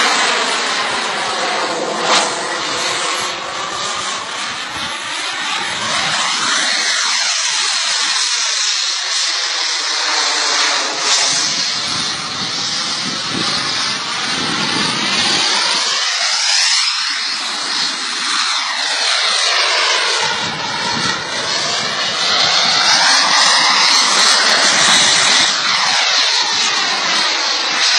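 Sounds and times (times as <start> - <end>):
jet engine whine: 0.0 - 27.9.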